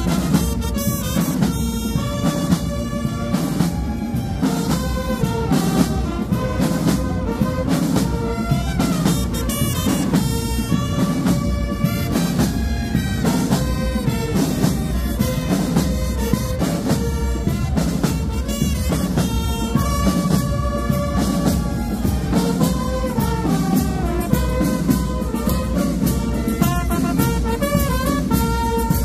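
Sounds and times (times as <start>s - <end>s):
brass instruments playing melody: 0.0s - 29.0s
marching drums beating: 0.0s - 29.0s.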